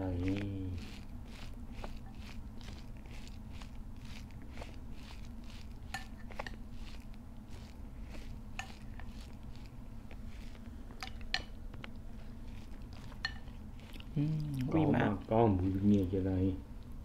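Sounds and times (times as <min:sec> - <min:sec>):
crunching of raw vegetables: 0:00.0 - 0:15.8
soft clicks and rustles of food: 0:00.0 - 0:16.1
people chewing food: 0:00.0 - 0:17.0
steady low hum: 0:00.0 - 0:17.0.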